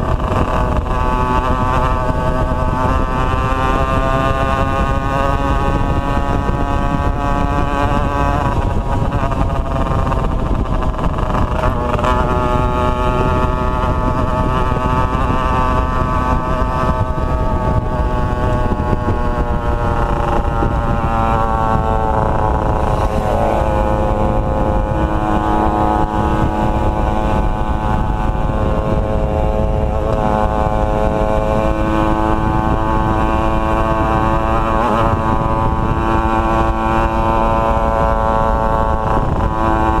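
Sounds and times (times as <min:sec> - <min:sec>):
two-stroke motorcycle engines: 0:00.0 - 0:40.0.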